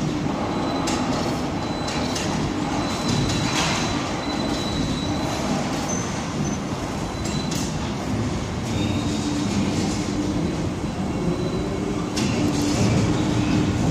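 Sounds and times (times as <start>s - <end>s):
crane machine hum: 0.0s - 13.9s.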